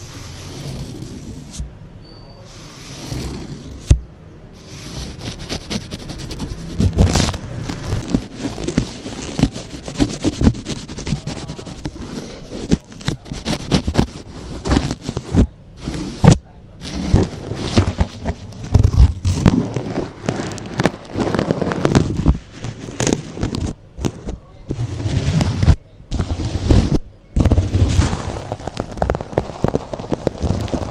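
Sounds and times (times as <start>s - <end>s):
scratching and scraping on microphone: 0.0s - 1.8s, 2.4s - 30.9s.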